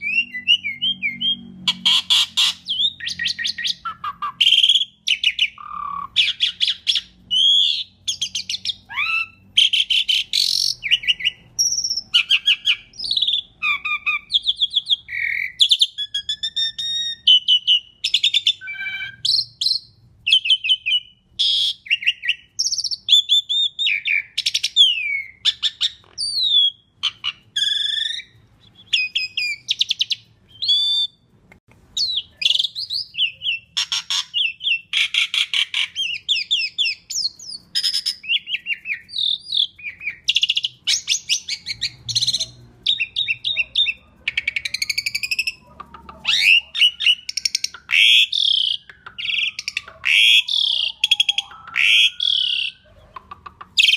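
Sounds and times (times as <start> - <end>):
starling singing: 0.0 - 31.2, 32.0 - 53.9.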